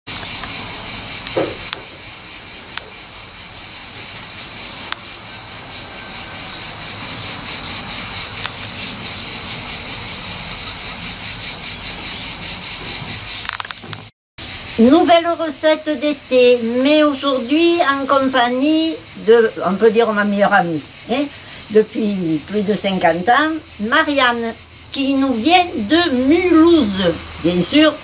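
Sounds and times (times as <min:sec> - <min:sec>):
cicadas buzzing: 0:00.1 - 0:28.0.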